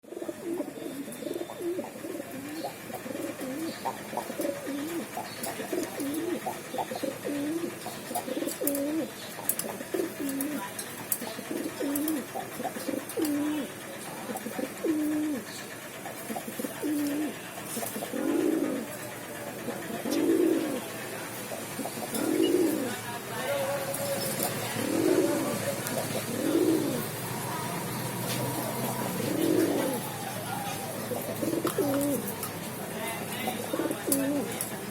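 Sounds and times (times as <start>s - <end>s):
pigeons cooing: 0.0s - 23.0s, 23.8s - 32.6s, 33.4s - 34.9s.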